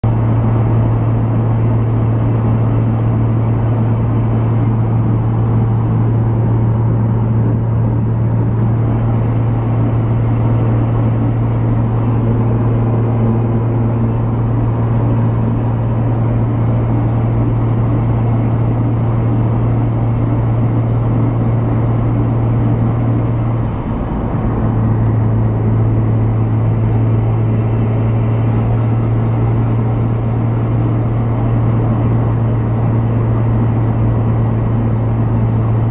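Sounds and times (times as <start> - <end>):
engine and road noise droning: 0.0 - 35.9.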